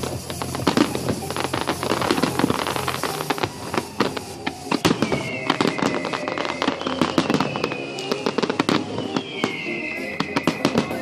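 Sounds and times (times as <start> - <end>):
fireworks bangs and crackling: 0.0 - 11.0
high tone gliding downward: 0.3 - 11.0.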